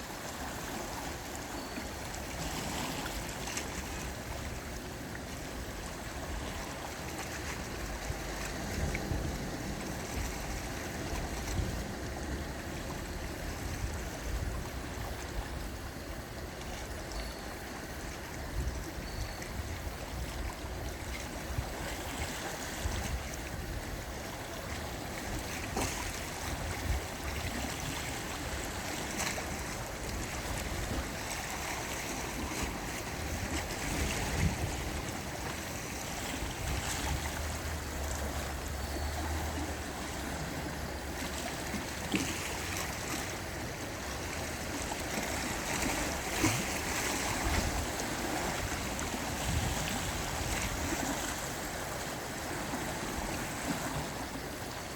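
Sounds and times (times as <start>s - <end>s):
gentle sea waves washing: 0.0s - 54.9s
wind rumble on microphone: 0.0s - 54.9s.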